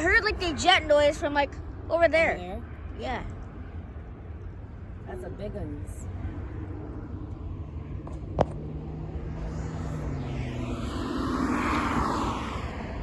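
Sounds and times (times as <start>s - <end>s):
jet airliner passing by: 0.0s - 13.0s.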